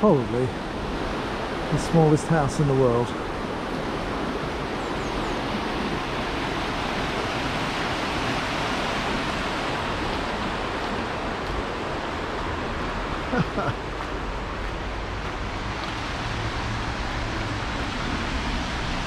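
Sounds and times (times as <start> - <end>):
fast-flowing stream rushing: 0.1 - 19.0.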